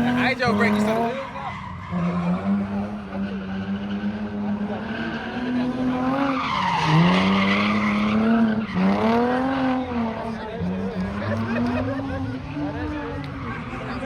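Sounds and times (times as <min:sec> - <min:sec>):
car engine at high revs: 0:00.0 - 0:14.0
tyres skidding: 0:00.0 - 0:14.0.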